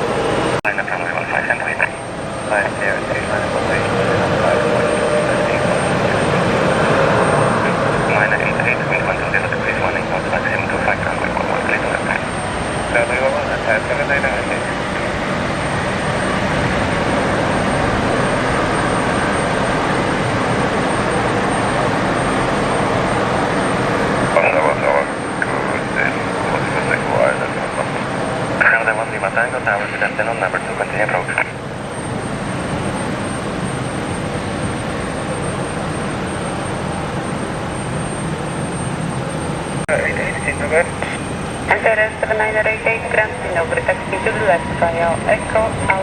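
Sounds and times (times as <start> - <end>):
jet engines rushing: 0.0 - 46.0.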